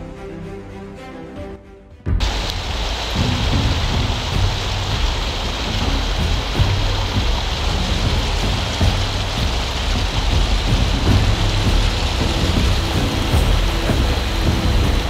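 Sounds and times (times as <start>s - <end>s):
low rumble: 2.1s - 15.0s
heavy rain: 2.2s - 15.0s.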